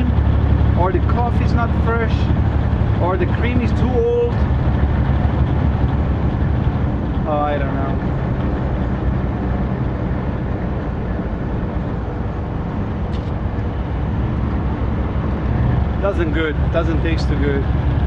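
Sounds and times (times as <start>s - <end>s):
road noise: 0.0s - 18.0s
truck diesel engine droning: 0.0s - 18.0s.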